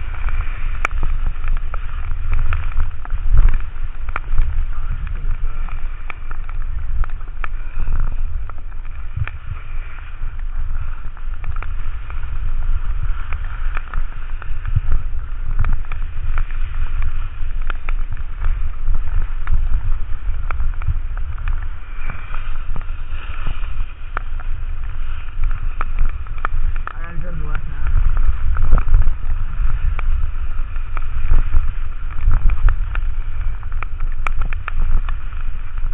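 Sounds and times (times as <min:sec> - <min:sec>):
skis hissing on wet snow: 0:00.0 - 0:35.9
wind buffeting microphone: 0:00.0 - 0:35.9.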